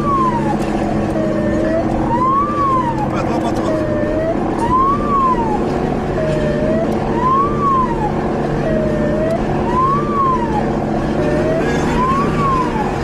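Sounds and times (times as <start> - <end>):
engine and road noise: 0.0 - 13.0
police siren: 0.0 - 13.0.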